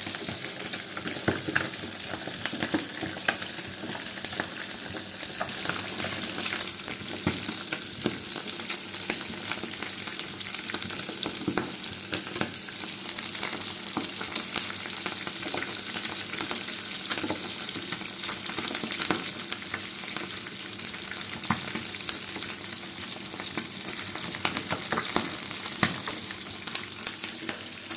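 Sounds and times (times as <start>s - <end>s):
food sizzling in a pan: 0.0s - 27.9s.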